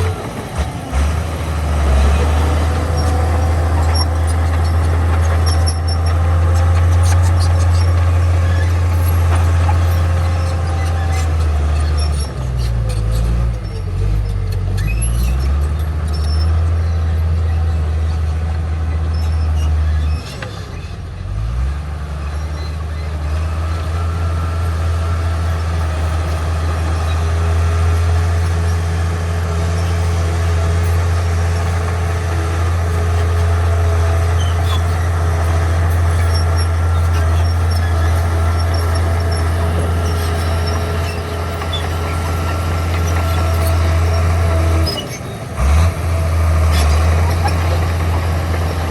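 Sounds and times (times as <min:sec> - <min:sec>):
heavy diesel engine under load: 0:00.0 - 0:48.9.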